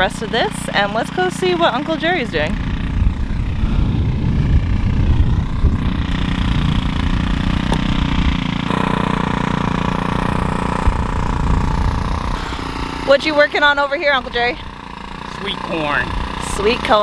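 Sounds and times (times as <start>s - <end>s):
rototiller engine running: 0.0s - 17.0s.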